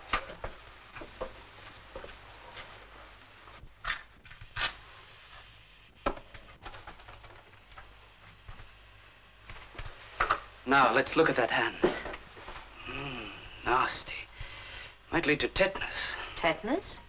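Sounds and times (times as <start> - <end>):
film soundtrack hiss: 0.0 - 17.0.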